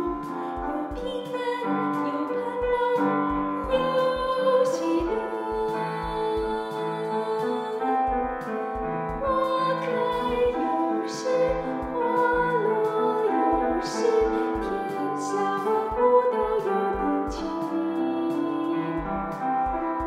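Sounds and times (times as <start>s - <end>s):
person singing a hymn: 0.0s - 8.4s, 9.1s - 20.0s
piano chords: 0.0s - 20.0s.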